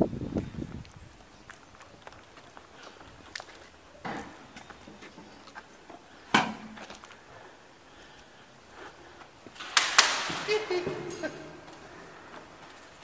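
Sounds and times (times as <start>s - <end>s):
footsteps: 0.3s - 13.0s.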